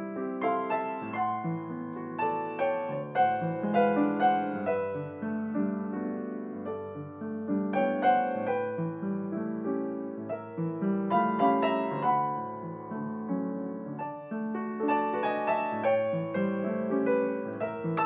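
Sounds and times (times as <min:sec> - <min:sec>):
upright piano playing: 0:00.0 - 0:18.0.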